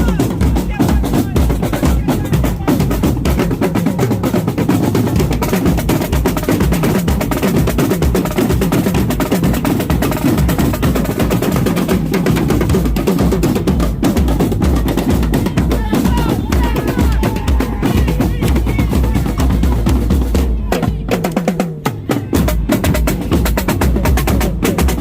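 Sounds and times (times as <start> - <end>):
bass drum beats: 0.0 - 25.0.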